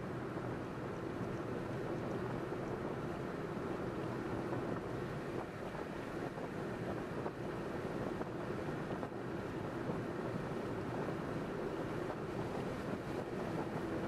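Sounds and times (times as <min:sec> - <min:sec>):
road and tyre rumble: 0:00.0 - 0:14.0
wind noise on microphone: 0:00.0 - 0:14.0.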